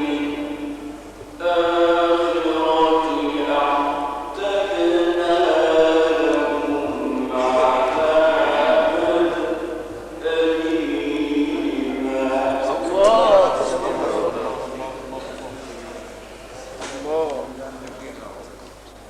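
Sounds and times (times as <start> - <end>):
man reciting melodically: 0.0 - 15.8.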